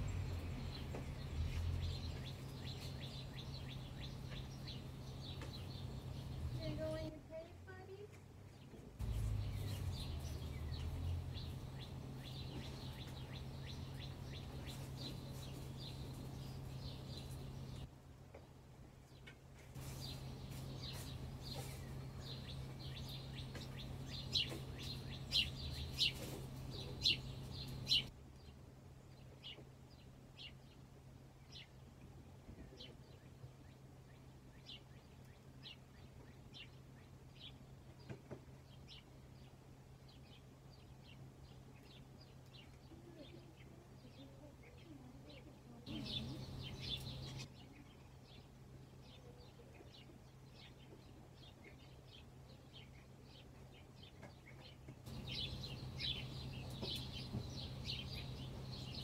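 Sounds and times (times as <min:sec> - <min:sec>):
small bird chirping: 0:00.0 - 0:17.9, 0:19.1 - 0:59.0.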